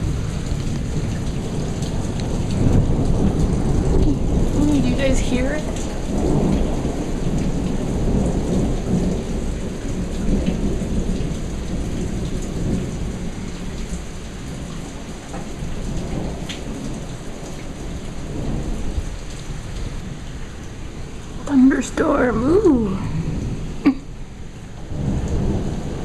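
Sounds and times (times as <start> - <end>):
low rolling thunder: 0.0 - 26.0
rain falling: 0.0 - 26.0.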